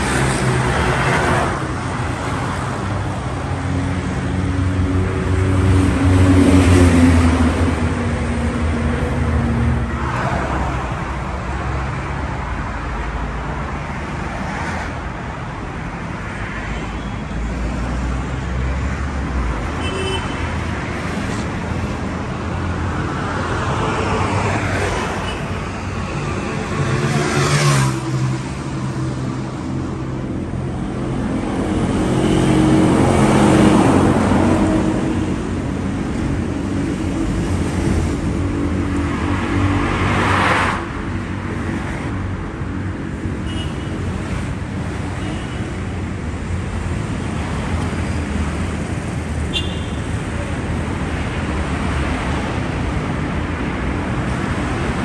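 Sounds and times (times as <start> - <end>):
road traffic hum: 0.0 - 55.0
vehicles passing close: 0.0 - 55.0.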